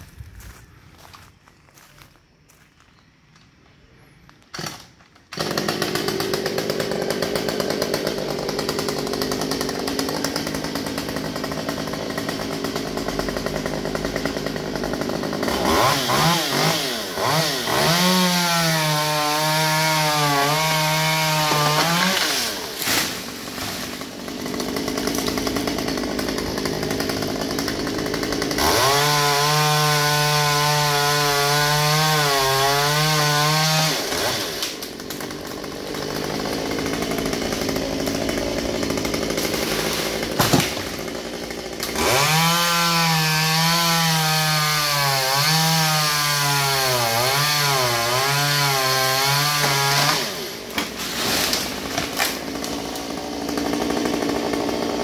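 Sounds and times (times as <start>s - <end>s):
chainsaw cutting branches: 4.6s - 55.0s.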